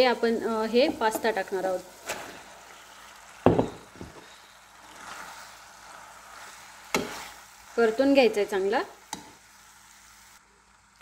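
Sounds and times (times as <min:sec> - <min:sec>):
pasta sauce sizzling: 0:00.0 - 0:11.0.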